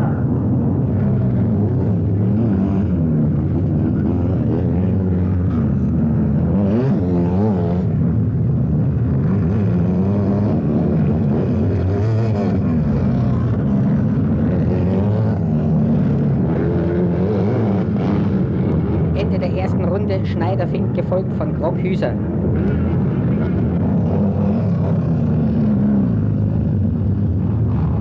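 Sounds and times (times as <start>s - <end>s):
motocross engines revving: 0.9s - 28.0s.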